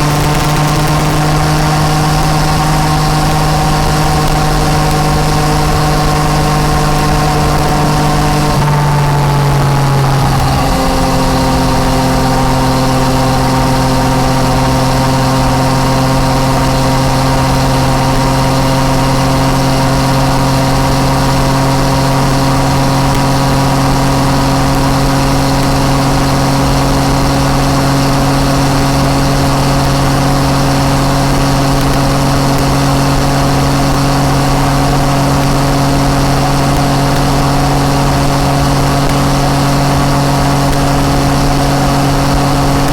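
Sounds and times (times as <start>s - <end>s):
motorcycle engine droning: 0.0s - 42.9s.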